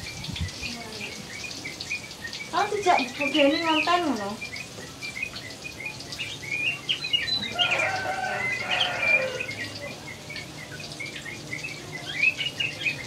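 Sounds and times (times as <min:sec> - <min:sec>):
small birds chirping: 0:00.0 - 0:13.0
long multi-note bird call: 0:01.3 - 0:13.0.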